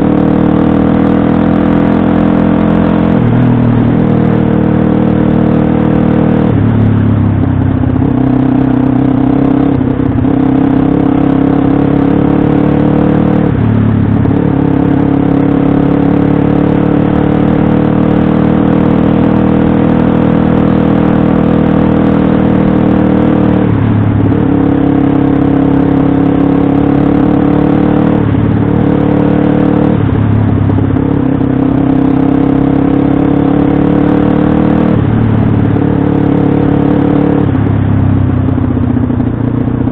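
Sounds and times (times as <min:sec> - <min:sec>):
motorbike engine revving: 0:00.0 - 0:38.3.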